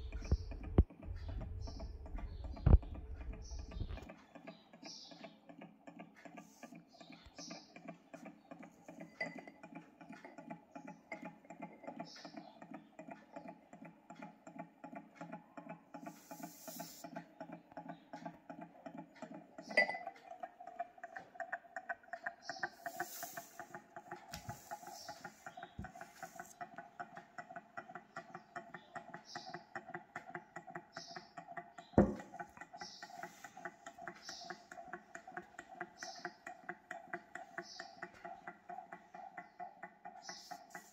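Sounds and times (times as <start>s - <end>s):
stirling engine ticking: 0.0s - 40.9s.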